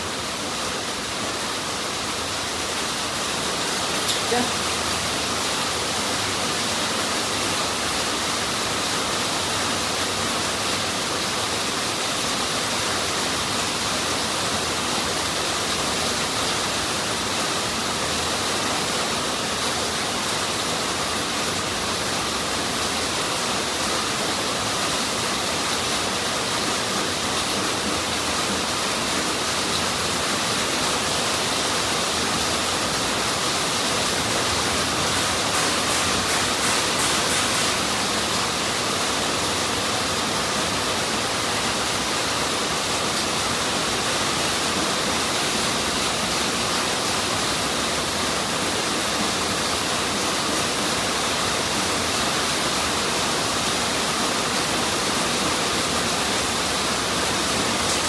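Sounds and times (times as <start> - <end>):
steady high hiss: 0.0 - 58.0.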